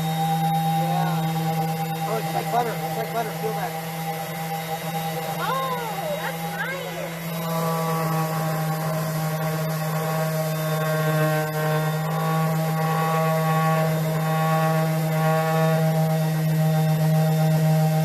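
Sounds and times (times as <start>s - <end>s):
electric power sander on wood: 0.0s - 18.0s.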